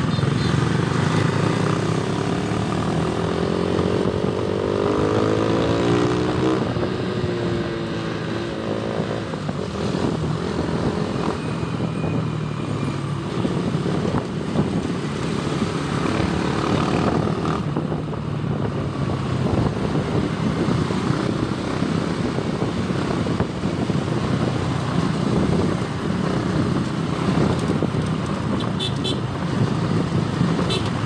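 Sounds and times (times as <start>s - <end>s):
wind rush: 0.6s - 31.0s.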